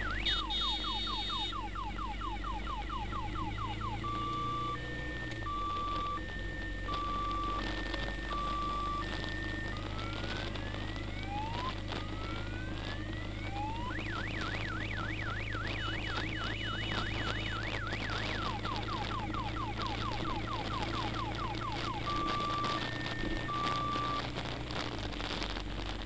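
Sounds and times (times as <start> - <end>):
electronic siren wailing and yelping: 0.0 - 24.8
low engine drone: 0.0 - 26.0.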